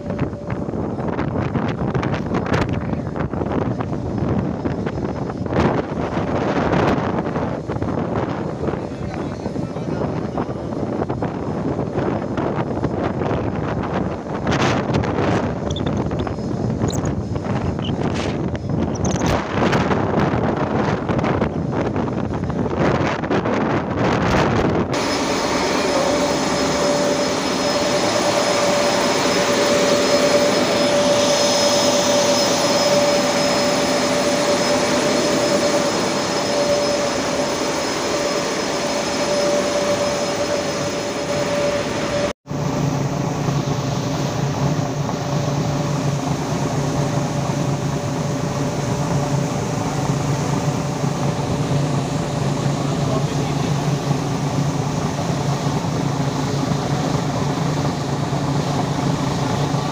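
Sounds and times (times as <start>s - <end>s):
boat engine drone: 0.0s - 59.9s
wind: 0.0s - 59.9s.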